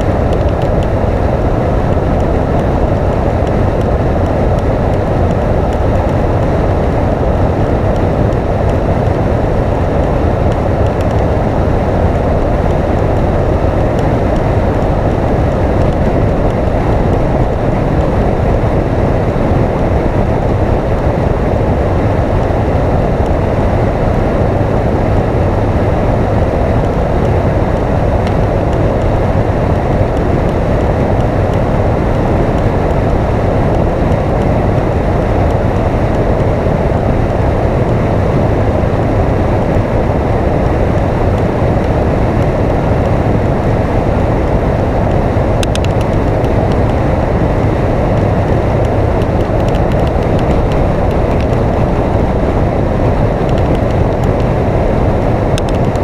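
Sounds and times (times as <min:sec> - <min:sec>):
motorcycle engine drone: 0:00.0 - 0:56.0
road noise: 0:00.0 - 0:56.0
wind rushing: 0:00.0 - 0:56.0.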